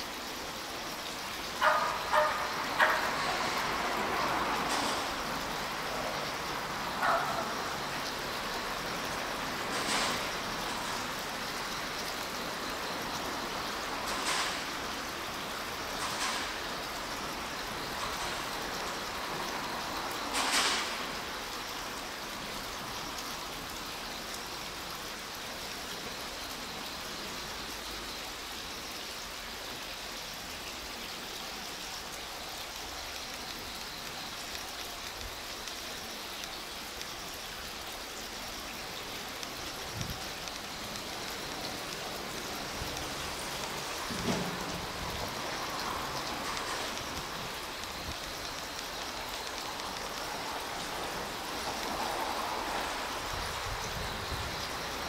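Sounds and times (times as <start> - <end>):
steady outdoor hiss: 0.0 - 55.0
distant electric train rolling: 1.0 - 23.8, 33.5 - 55.0.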